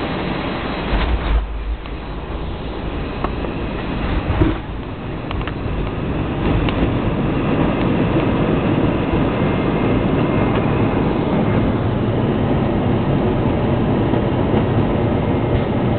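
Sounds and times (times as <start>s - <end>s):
aircraft engines roaring: 0.0s - 15.9s.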